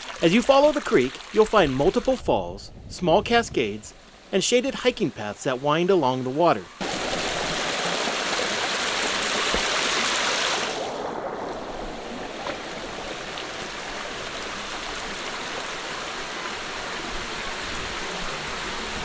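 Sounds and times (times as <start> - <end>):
creek water running over falls: 0.0 - 19.0.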